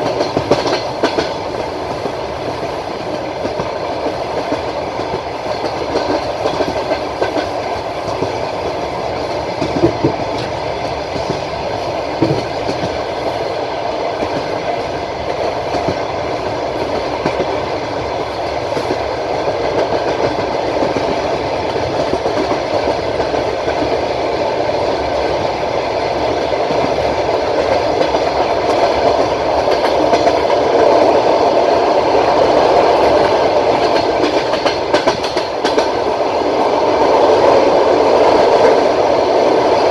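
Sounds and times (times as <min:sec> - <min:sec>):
train carriage rumble: 0:00.0 - 0:39.9
train wheels clacking on rails: 0:00.0 - 0:39.9.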